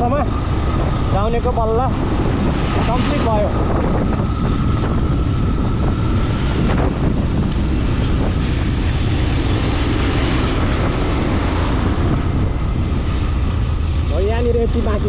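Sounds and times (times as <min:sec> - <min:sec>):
vehicle and road noise: 0:00.0 - 0:15.0
wind rumbling on microphone: 0:00.0 - 0:15.0.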